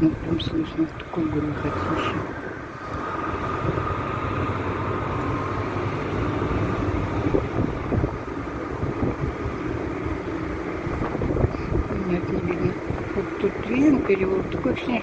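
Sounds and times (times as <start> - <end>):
faint constant whine: 0.0 - 15.0
snow-clearing machine engine rumble: 0.0 - 15.0.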